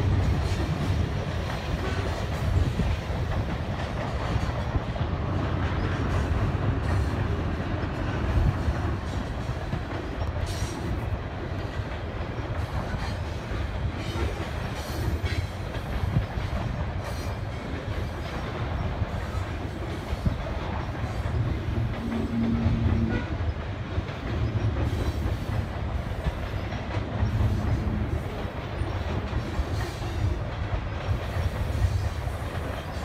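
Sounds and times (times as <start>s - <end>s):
rail clicks: 0.0s - 33.0s
train wheels rumbling on rails: 0.0s - 33.0s.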